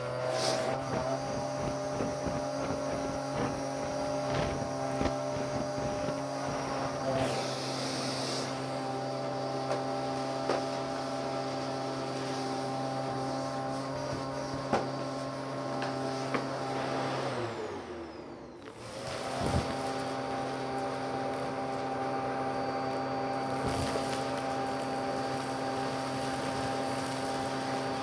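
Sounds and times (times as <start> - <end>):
vacuum cleaner motor hum: 0.0 - 28.0.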